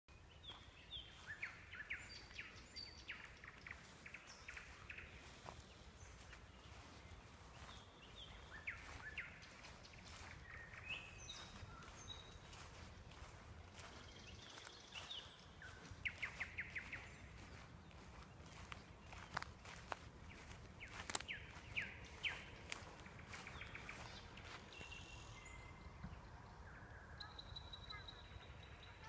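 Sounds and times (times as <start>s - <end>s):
songbirds chirping: 0.1s - 29.0s.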